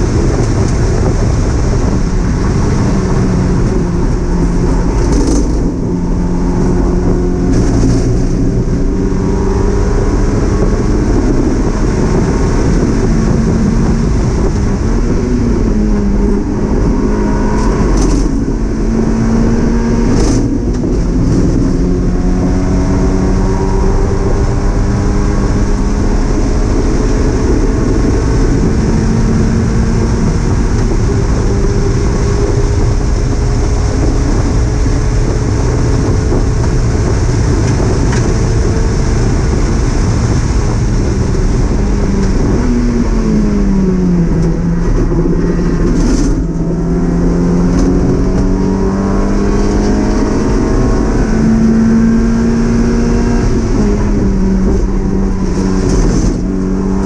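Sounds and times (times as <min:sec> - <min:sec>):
car engine at high revs: 0:00.0 - 0:57.0
road and wind noise: 0:00.0 - 0:57.0.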